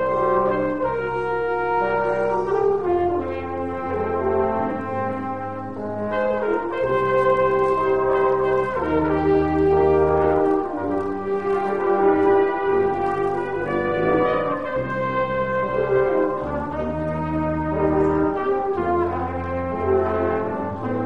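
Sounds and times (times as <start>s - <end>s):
brass ensemble playing chords: 0.0s - 21.0s
tuba bass line: 0.0s - 21.0s.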